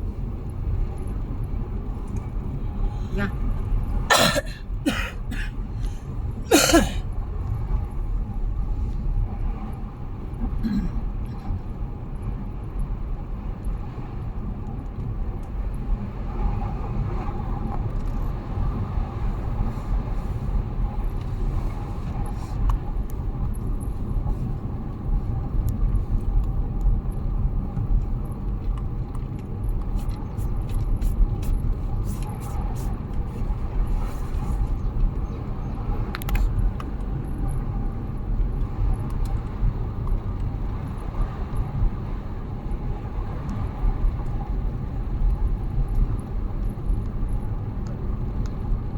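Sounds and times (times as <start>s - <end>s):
car interior engine and road rumble: 0.0s - 48.9s.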